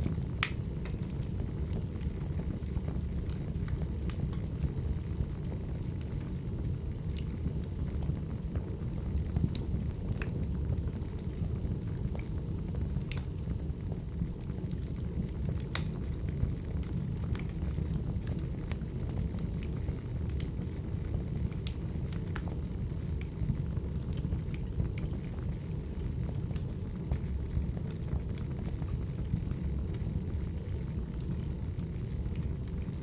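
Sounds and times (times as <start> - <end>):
crackles and pops of logs: 0.0 - 6.4, 7.0 - 13.6, 14.2 - 33.0
wood fire rumbling: 0.0 - 33.0.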